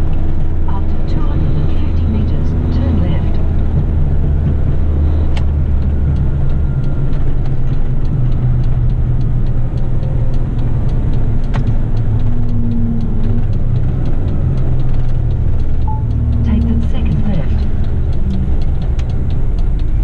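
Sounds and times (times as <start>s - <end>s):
fast even ticking: 0.0s - 20.0s
truck diesel engine running: 0.0s - 20.0s.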